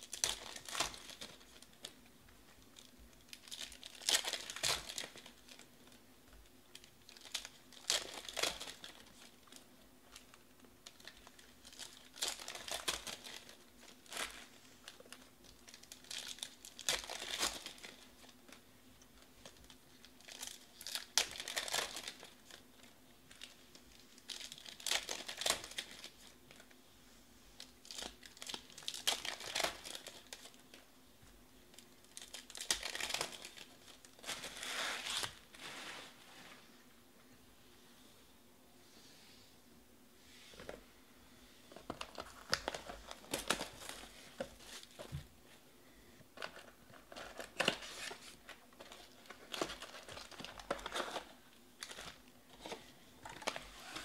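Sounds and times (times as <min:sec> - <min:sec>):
plastic wrappers tearing and crinkling: 0:00.0 - 0:02.0, 0:02.7 - 0:06.0, 0:06.7 - 0:18.6, 0:19.2 - 0:26.7, 0:27.6 - 0:30.8, 0:31.7 - 0:36.2, 0:41.7 - 0:45.2, 0:46.4 - 0:54.0.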